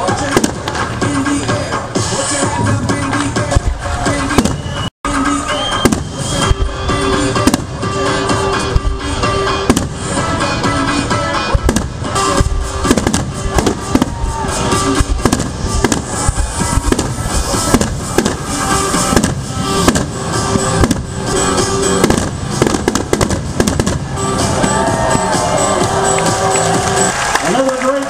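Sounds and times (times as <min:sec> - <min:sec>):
fireworks bursting with bangs: 0:00.0 - 0:04.9, 0:05.5 - 0:25.7
music playing: 0:00.0 - 0:28.0.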